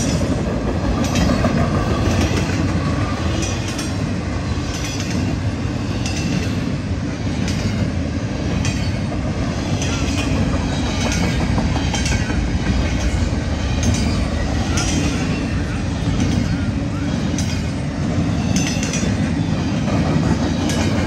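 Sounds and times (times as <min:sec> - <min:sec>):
wheels clicking over rail joints: 0:00.0 - 0:06.8, 0:07.4 - 0:21.0
freight train rumbling past: 0:00.0 - 0:21.0.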